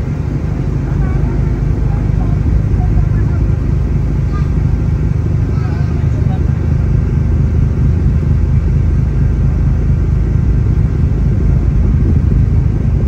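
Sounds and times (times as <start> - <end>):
ferry engines droning: 0.0 - 13.0
wind on microphone: 0.0 - 13.0.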